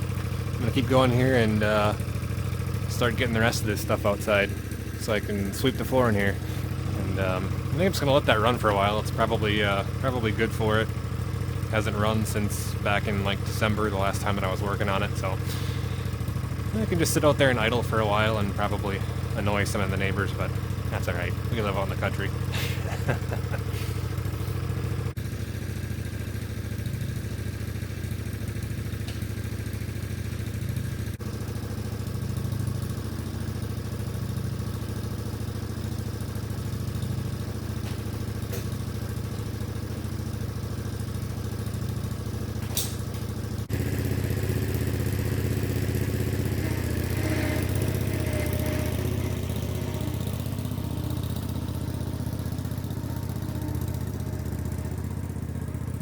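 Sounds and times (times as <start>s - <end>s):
small engine idling: 0.0s - 56.0s.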